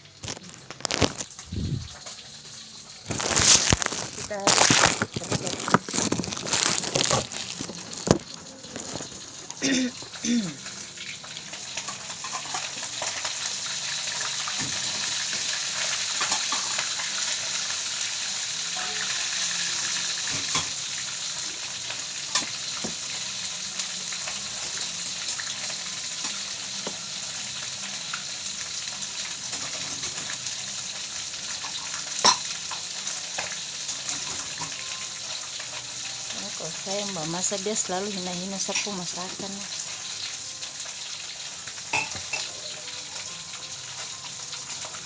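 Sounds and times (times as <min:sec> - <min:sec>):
food sizzling in frying pan: 0:00.0 - 0:45.0.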